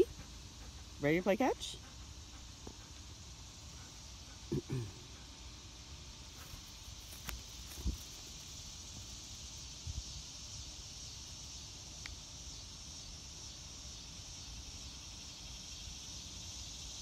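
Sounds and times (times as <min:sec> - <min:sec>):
insects chorusing: 0:00.0 - 0:17.0.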